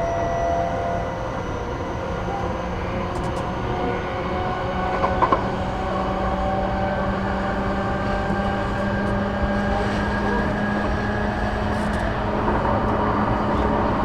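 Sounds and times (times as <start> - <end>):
traction motor whine: 0.0 - 14.0
train wheels rumbling on rails: 0.0 - 14.0.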